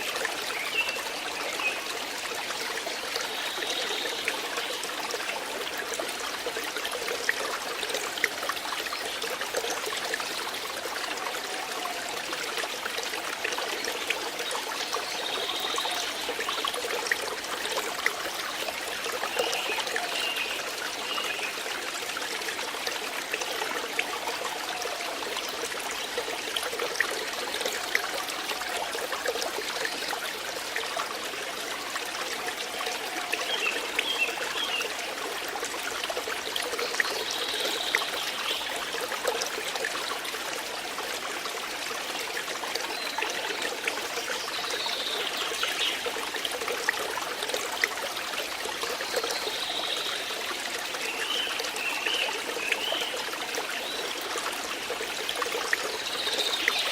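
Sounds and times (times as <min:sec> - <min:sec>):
stream water trickling: 0:00.0 - 0:56.9.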